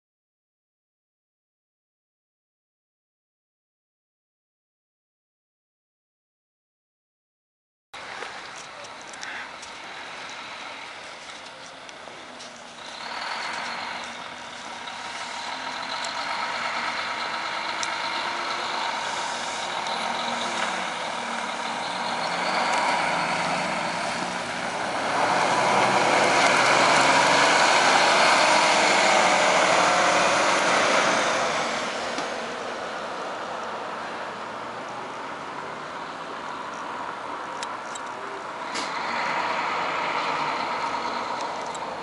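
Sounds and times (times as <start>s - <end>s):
diesel bus engine accelerating: 8.0s - 42.0s.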